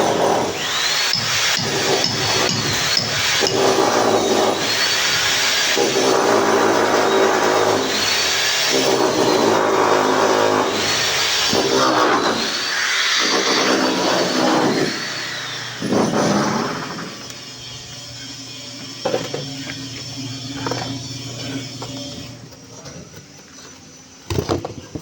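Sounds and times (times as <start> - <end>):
power tool running in bursts: 0.0 - 22.6.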